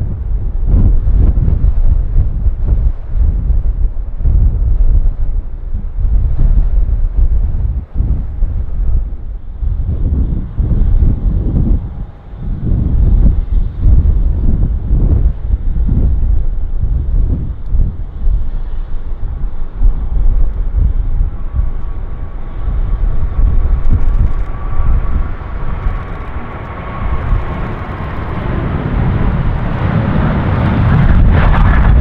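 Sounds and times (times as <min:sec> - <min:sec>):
jet engines rumbling and whining: 0:00.0 - 0:32.0
wind buffeting microphone: 0:00.0 - 0:32.0.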